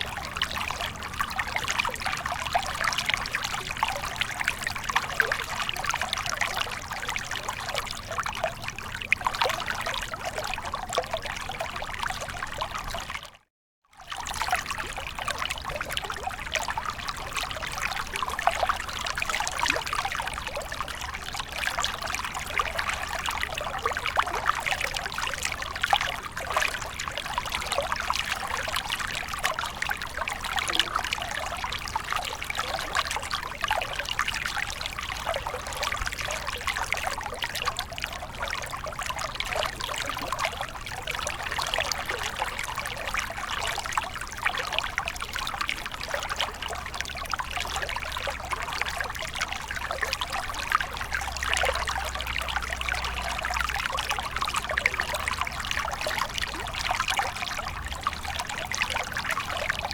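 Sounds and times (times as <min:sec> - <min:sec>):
water flowing and trickling: 0:00.0 - 0:13.4, 0:14.0 - 0:59.9.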